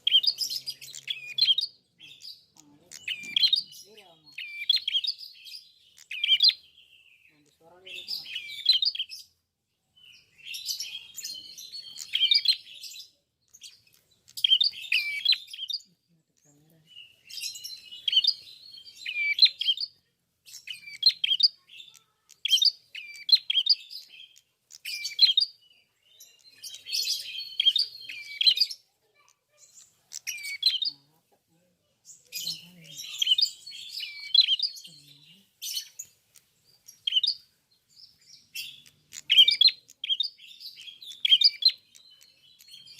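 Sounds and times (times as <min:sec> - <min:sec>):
bird chirping high phrases: 0:00.0 - 0:42.9.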